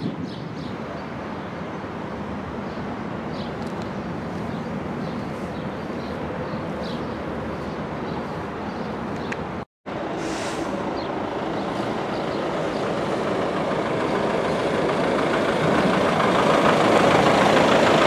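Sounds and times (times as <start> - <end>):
low engine rumble: 0.8 - 18.0.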